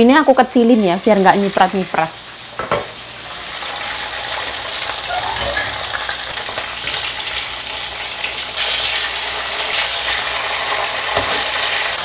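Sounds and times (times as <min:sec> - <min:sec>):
fish sizzling in hot oil: 0:00.5 - 0:12.0.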